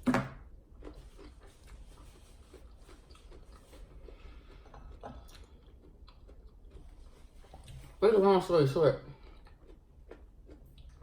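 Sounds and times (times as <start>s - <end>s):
faint chewing of food: 0.5s - 8.0s, 9.0s - 11.0s.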